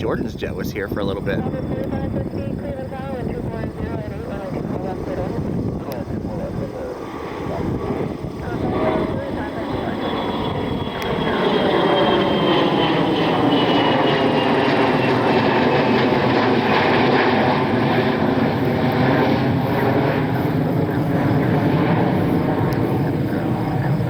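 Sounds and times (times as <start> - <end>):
jet engines taking off: 0.0 - 24.0.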